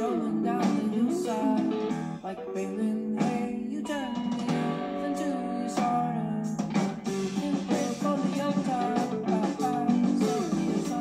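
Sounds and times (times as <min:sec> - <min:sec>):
rock song with guitar and singing: 0:00.0 - 0:11.0.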